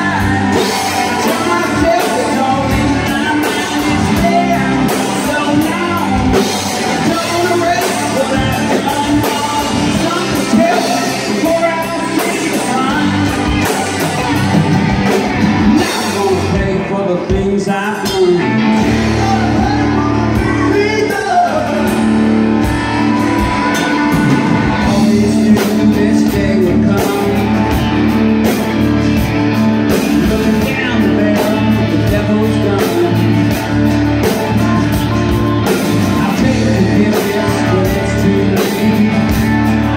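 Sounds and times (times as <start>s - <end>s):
lead vocalist singing: 0.0s - 39.9s
live rock band playing: 0.0s - 39.9s.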